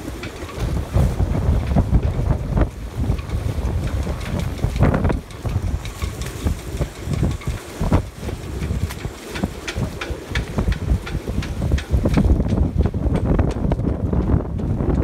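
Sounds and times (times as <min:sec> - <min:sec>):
wind gusting across microphone: 0:00.0 - 0:15.0.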